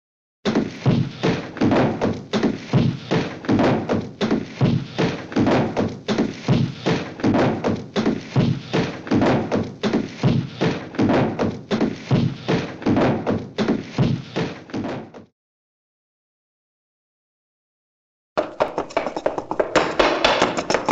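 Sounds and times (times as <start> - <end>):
fast run of thuds: 0.5 - 15.3, 18.4 - 20.9.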